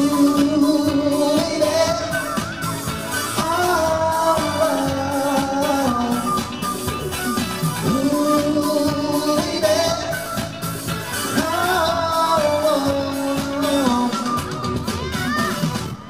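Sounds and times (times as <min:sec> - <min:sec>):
drum beat: 0:00.0 - 0:16.0
person singing: 0:00.0 - 0:16.0.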